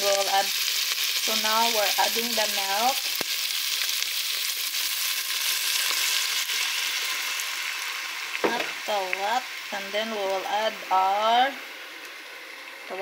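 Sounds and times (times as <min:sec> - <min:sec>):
asparagus sizzling in a pan: 0:00.0 - 0:13.0.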